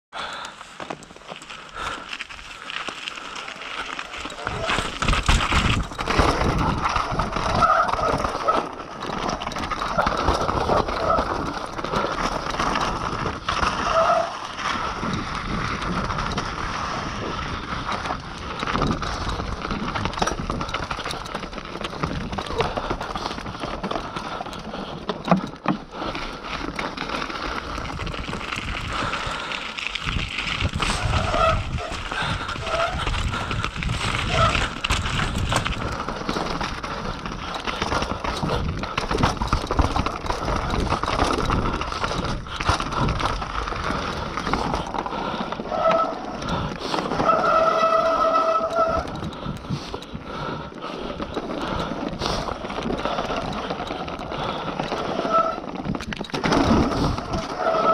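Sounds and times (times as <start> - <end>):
mountain bike rattling over boardwalk: 0.2 - 57.9.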